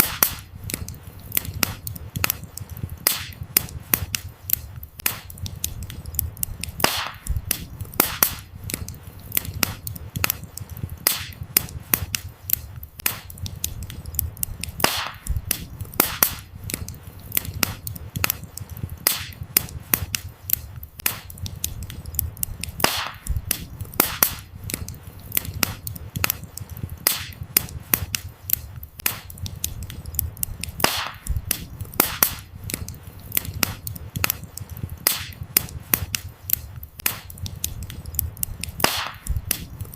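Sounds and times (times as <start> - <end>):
loud sharp cracks: 0.0 - 39.9
low rumble of flames: 0.0 - 39.9
wood fire crackling: 0.0 - 39.9.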